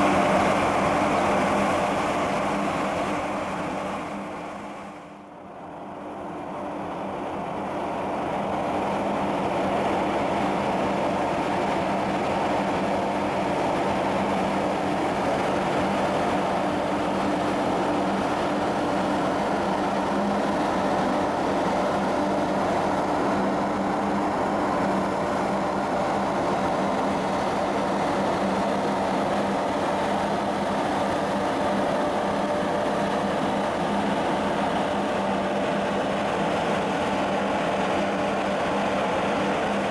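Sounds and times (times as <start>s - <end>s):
broad rushing noise: 0.0s - 39.9s
ship machinery drone: 0.0s - 39.9s.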